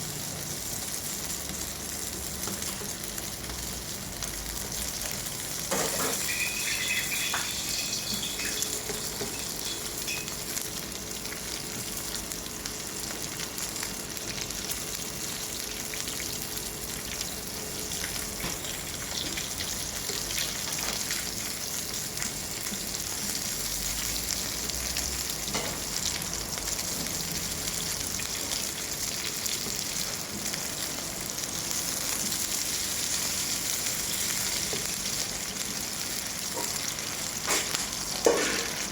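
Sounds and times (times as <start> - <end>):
oysters sizzling in a pan: 0.0 - 38.9.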